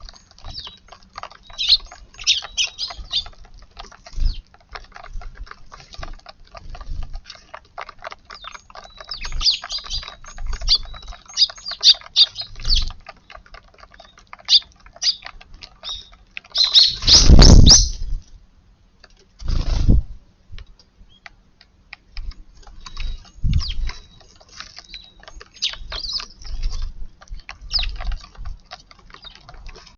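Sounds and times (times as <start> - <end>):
small rapid clicks: 0.0 - 18.2, 20.6 - 29.9
sparrows chirping: 0.0 - 18.2, 22.0 - 29.9.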